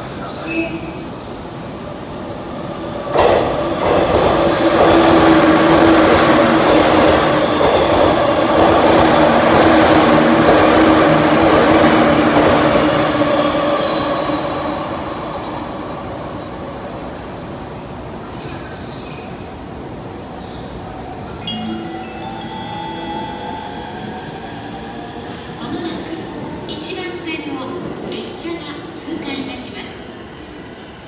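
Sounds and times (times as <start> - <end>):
electric train passing at speed: 0.0 - 31.0.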